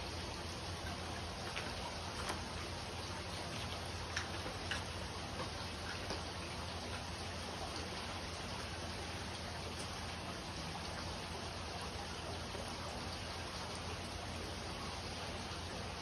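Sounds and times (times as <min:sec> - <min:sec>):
aquarium pumps humming: 0:00.0 - 0:16.0
water flowing and trickling: 0:00.0 - 0:16.0.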